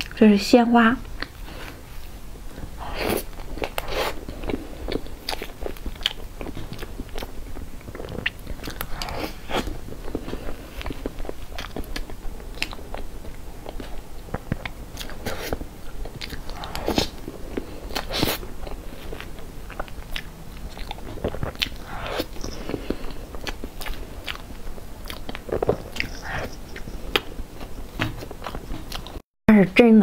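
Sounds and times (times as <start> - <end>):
chewing with mouth clicks: 2.6 - 29.2.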